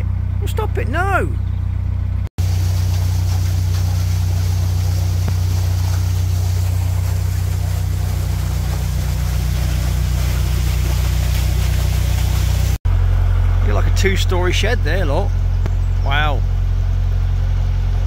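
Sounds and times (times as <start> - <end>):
boat diesel engine humming: 0.0 - 18.0.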